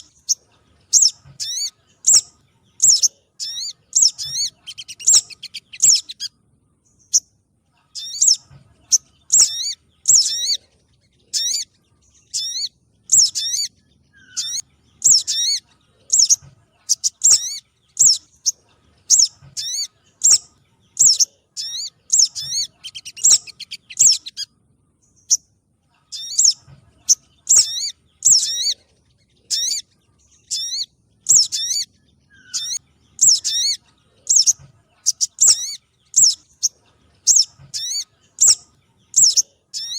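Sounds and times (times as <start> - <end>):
high bird chirps: 0.0 - 39.9.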